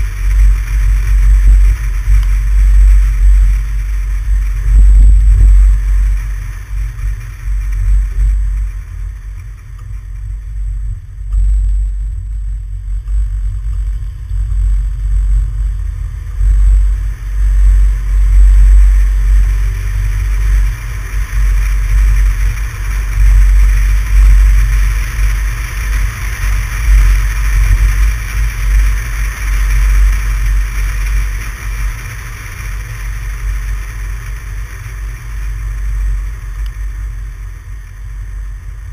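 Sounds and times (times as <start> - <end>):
steady hiss: 0.0 - 38.9
vehicle wind and road rumble: 0.0 - 38.9.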